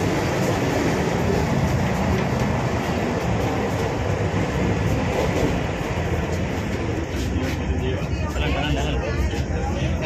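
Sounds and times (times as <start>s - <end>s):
electric train rumbling: 0.0s - 10.0s.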